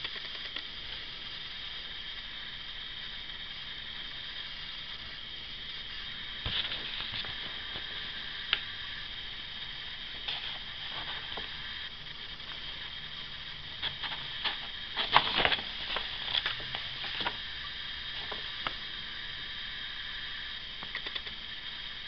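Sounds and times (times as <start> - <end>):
camcorder hiss with high whine: 0.0 - 22.0.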